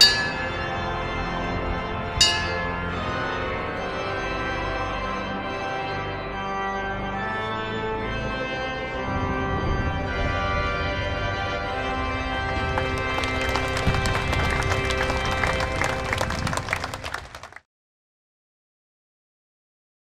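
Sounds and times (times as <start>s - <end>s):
organ playing chords: 0.0s - 17.6s.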